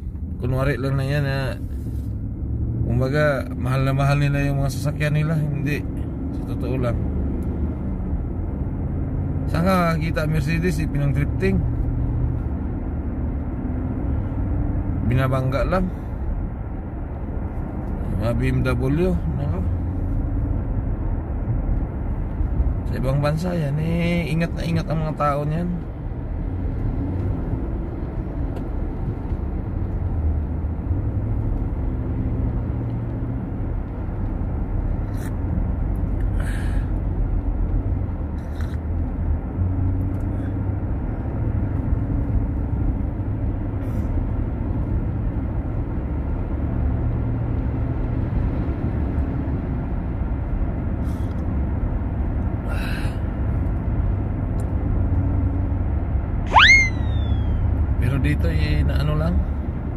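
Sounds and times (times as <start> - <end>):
road and engine rumble: 0.0 - 59.9.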